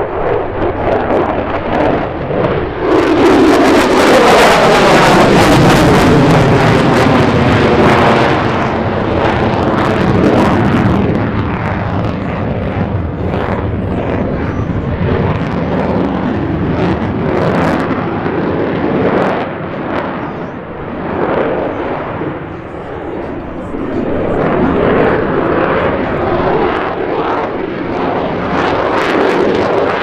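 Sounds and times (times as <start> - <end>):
jet engine roaring with crackle: 0.0 - 30.0.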